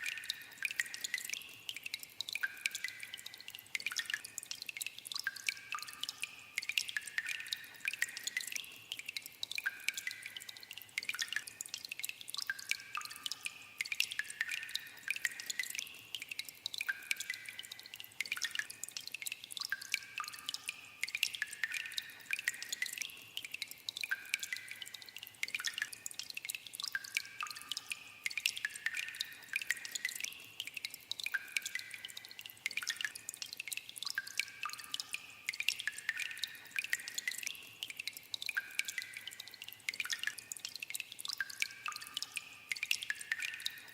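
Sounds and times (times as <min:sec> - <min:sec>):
water dripping in a cave: 0:00.0 - 0:43.9.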